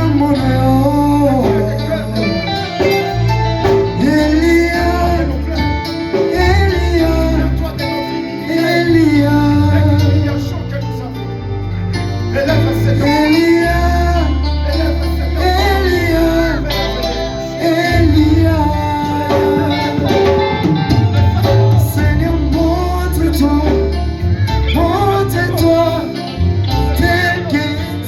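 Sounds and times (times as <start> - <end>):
steady bass line: 0.0 - 28.0
worship music singing with band: 0.0 - 28.0.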